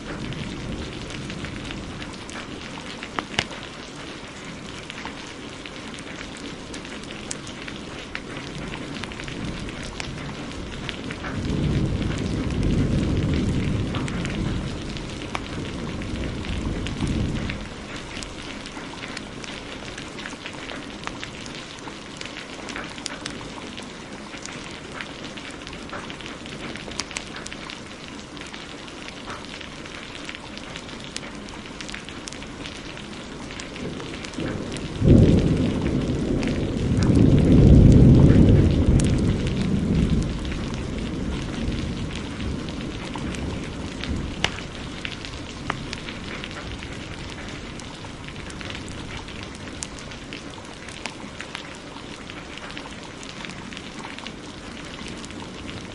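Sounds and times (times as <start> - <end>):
thunderclap rumbling: 0.0 - 28.5, 30.7 - 55.9
heavy rain: 0.0 - 55.9
wood fire crackling and popping: 0.0 - 55.9.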